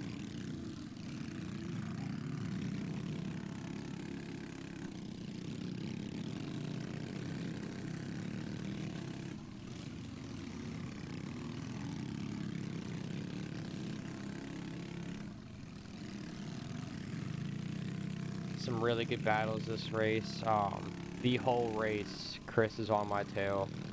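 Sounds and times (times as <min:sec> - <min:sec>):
small motorbike engines racing: 0:00.0 - 0:23.9.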